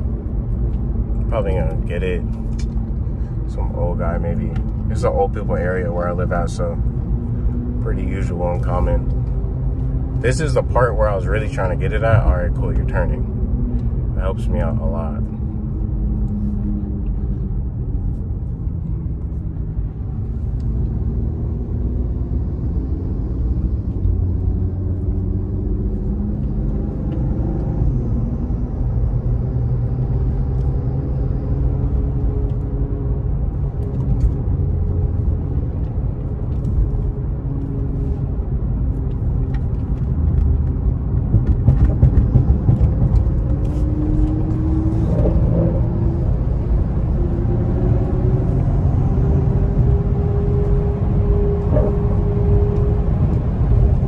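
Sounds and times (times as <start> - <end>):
car engine accelerating and shifting: 0.0 - 54.0
road rumble: 0.0 - 54.0.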